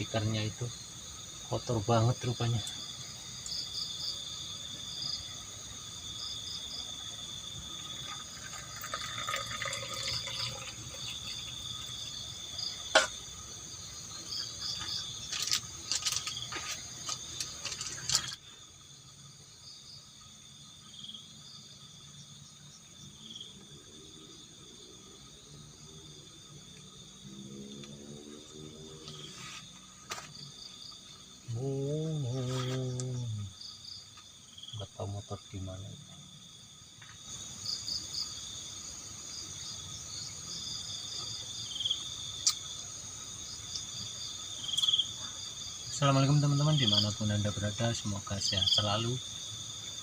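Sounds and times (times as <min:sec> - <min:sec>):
crickets trilling: 0:00.0 - 0:50.0.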